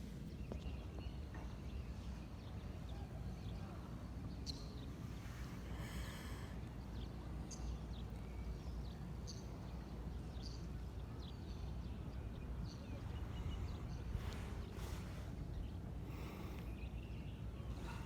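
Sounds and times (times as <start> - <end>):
birds chirping: 0.2 - 18.0.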